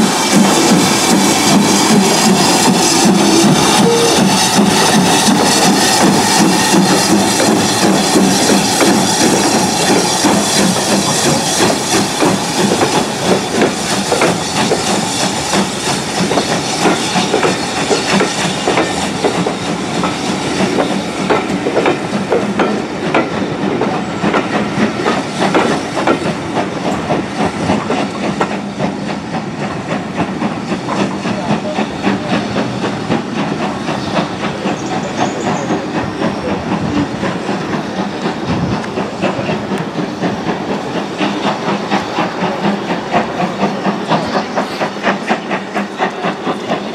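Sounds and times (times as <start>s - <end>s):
hiss of steam: 0.0s - 46.9s
steam locomotive beats: 0.0s - 46.9s.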